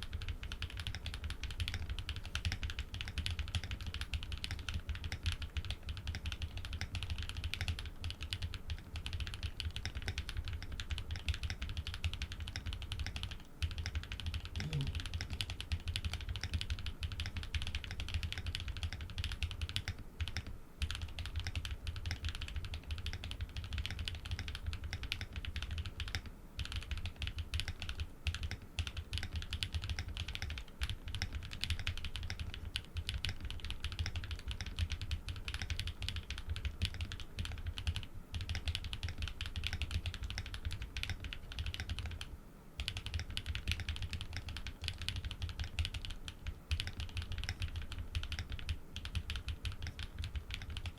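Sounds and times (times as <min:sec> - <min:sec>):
fast typing on mechanical keyboard: 0:00.0 - 0:50.9.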